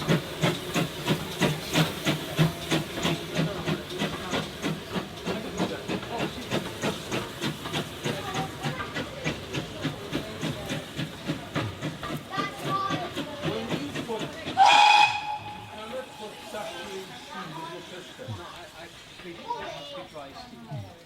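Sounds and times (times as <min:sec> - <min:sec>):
steam locomotive exhaust beats: 0:00.0 - 0:19.4
steady steam hiss: 0:00.0 - 0:21.0.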